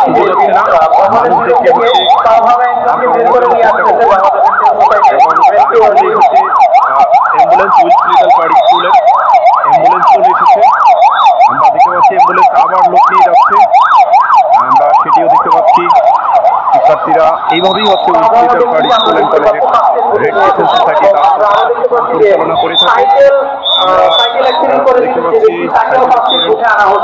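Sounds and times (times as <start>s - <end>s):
ambulance siren yelping: 0.0s - 27.0s.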